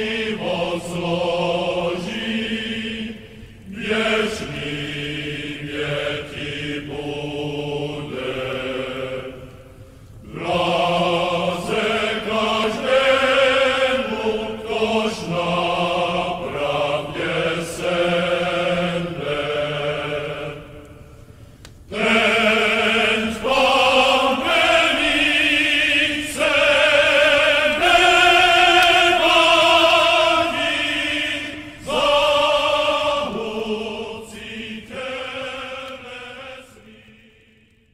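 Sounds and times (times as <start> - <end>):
choir chanting: 0.0 - 21.2, 21.9 - 37.9.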